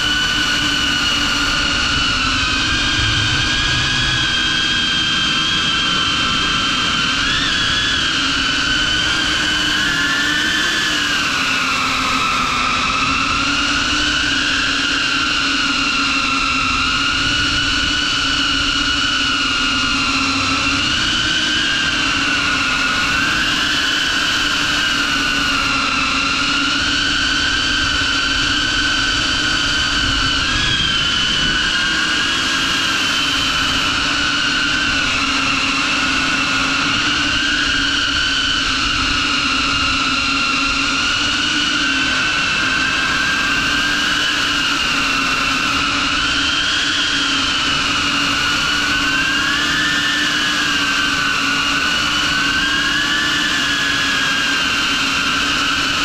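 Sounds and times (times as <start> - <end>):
drone motors and propellers whining: 0.0 - 56.0.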